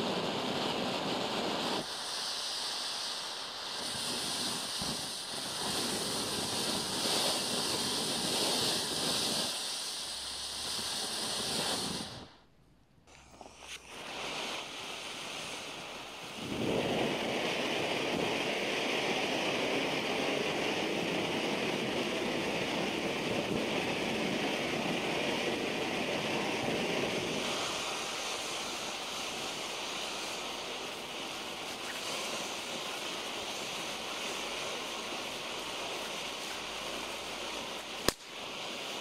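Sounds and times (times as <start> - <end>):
firework fountain hissing: 0.0 - 39.0.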